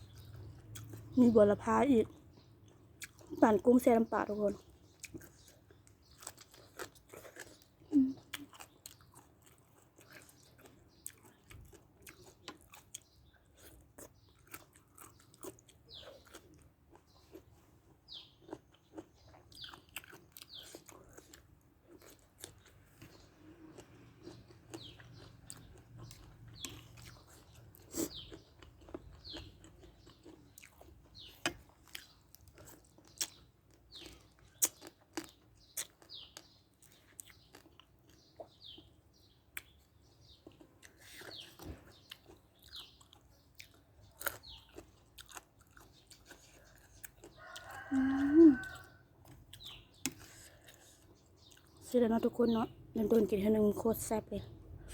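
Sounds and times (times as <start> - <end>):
chewing and crunching food: 0.0 - 54.9.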